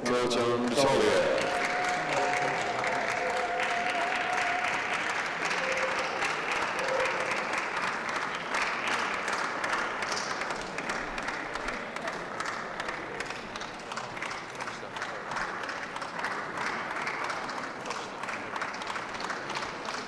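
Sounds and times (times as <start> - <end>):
audience applauding: 0.4 - 20.0.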